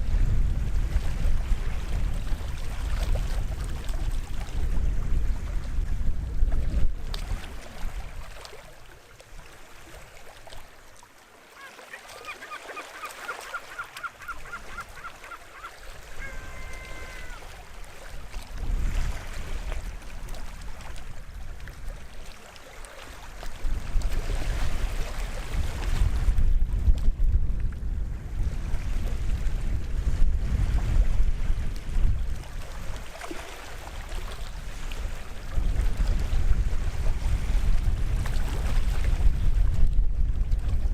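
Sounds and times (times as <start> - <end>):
waves washing onto shore: 0.0 - 40.9.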